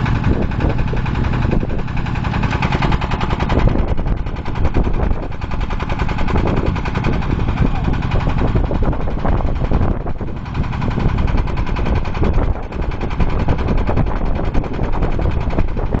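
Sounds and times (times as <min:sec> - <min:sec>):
drilling rig clattering: 0:00.0 - 0:16.0.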